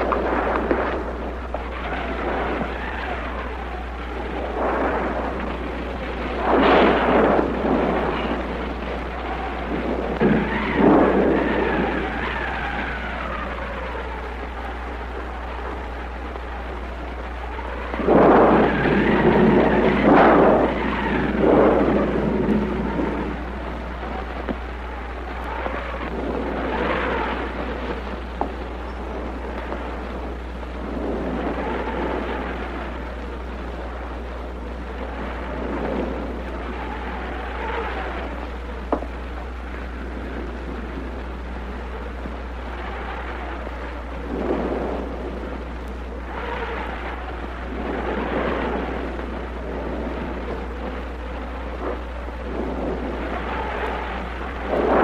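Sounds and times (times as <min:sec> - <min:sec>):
steady low hum: 0:00.0 - 0:55.0
thunder rumble: 0:00.0 - 0:55.0
wind-like noise: 0:00.0 - 0:55.0.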